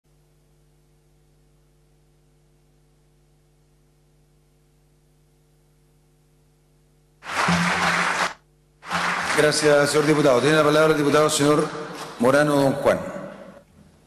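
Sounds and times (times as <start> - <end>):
faint hum with hiss: 0.1 - 14.0.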